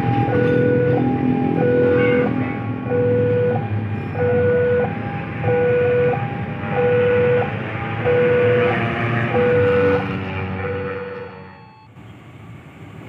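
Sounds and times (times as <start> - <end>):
two-tone electronic alarm: 0.0 - 11.9
train rumbling on tracks: 0.0 - 13.0.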